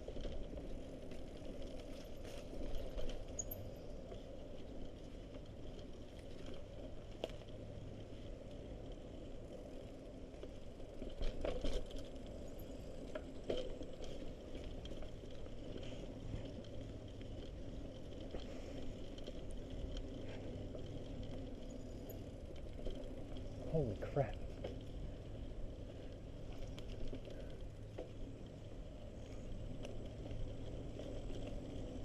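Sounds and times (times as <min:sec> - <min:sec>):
bike tyre and drivetrain noise: 0:00.0 - 0:32.0.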